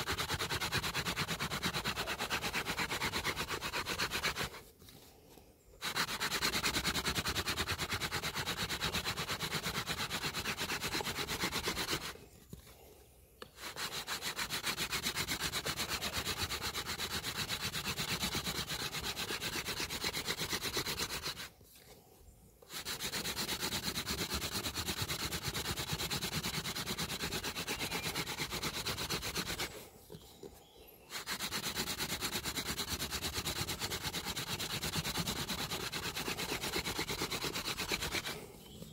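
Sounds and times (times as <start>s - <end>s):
wood grinding on wood: 0.0s - 5.0s, 5.8s - 12.8s, 13.4s - 21.9s, 22.6s - 38.5s.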